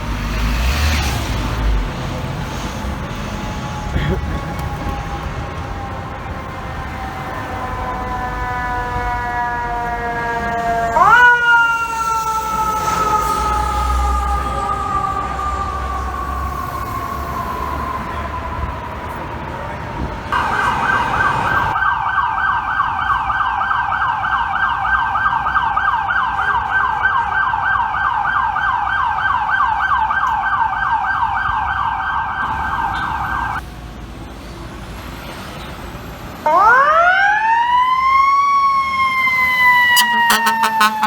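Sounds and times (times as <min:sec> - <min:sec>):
siren wail: 0:02.5 - 0:33.6, 0:36.4 - 0:41.0
siren yelp: 0:03.3 - 0:33.6, 0:36.4 - 0:41.0.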